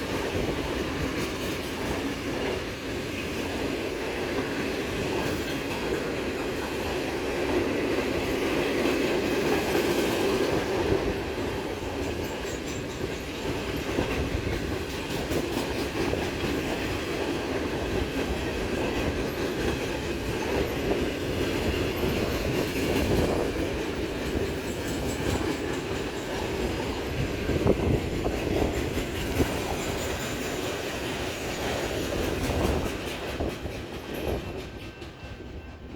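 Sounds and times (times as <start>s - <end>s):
freight train wheels clicking: 0.0s - 35.9s.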